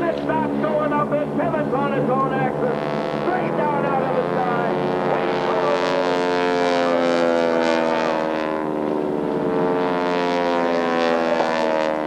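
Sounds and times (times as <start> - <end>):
biplane engine droning overhead: 0.0 - 12.0.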